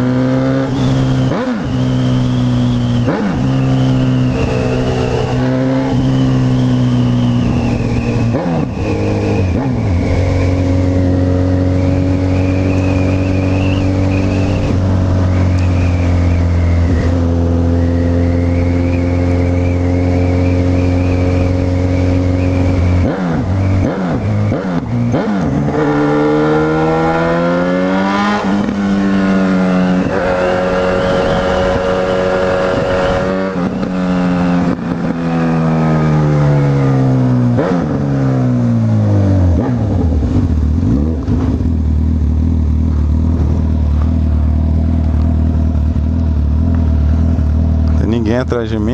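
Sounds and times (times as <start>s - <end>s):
motorcycle engine running: 0.0s - 27.2s, 28.2s - 48.9s.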